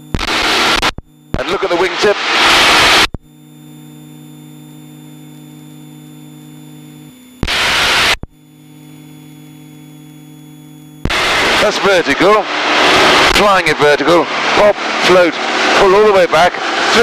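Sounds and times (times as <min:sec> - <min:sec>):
low electrical hum: 0:00.0 - 0:15.8.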